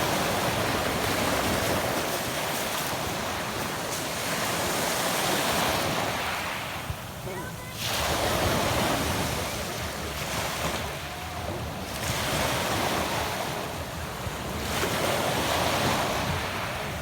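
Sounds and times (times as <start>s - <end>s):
waves washing up pebble beach: 0.0s - 17.0s.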